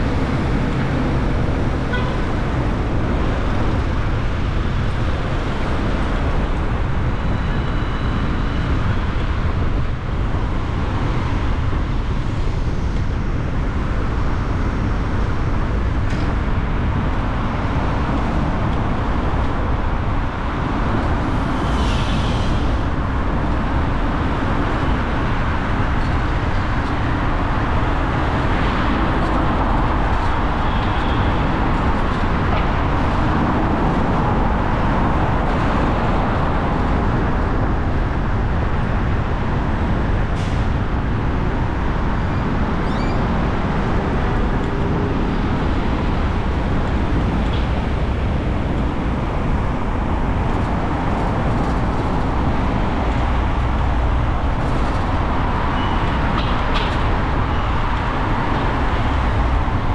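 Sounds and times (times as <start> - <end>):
car road noise rumble: 0.0 - 59.9.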